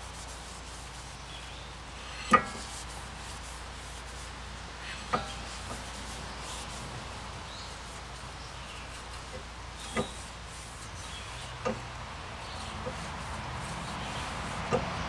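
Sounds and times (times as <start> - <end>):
paper towel rubbing on metal: 0.0 - 15.0.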